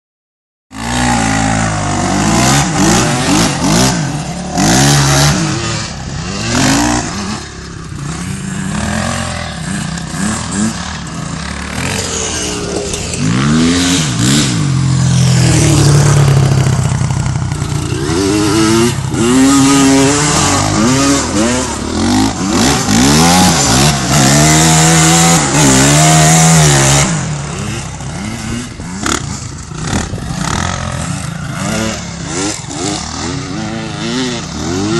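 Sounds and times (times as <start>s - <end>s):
dirt bike engines revving: 0.7s - 34.9s.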